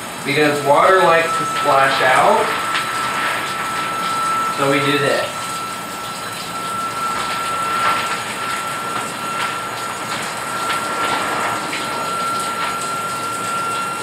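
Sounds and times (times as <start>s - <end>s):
water running into bathtub: 0.0s - 14.0s
water splashing: 0.0s - 14.0s
thin steady whistle: 0.2s - 14.0s.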